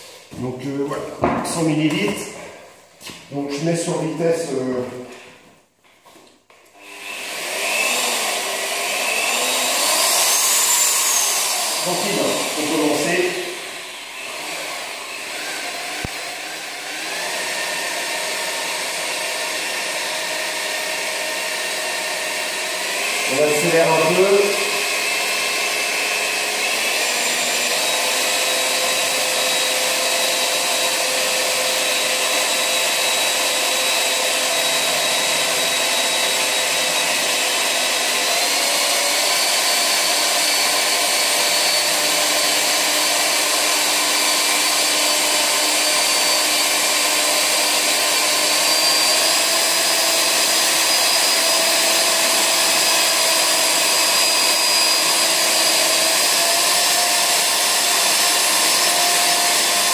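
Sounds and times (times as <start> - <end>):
electric paddle mixer motor whine: 6.8 - 59.9.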